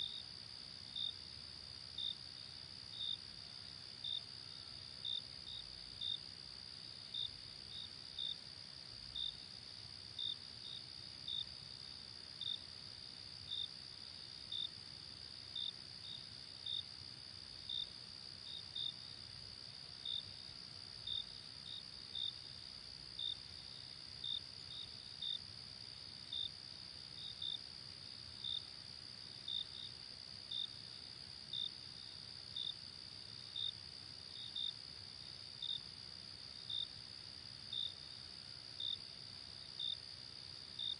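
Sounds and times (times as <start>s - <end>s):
faint low hiss: 0.0s - 40.9s
insect chirps: 0.0s - 40.9s.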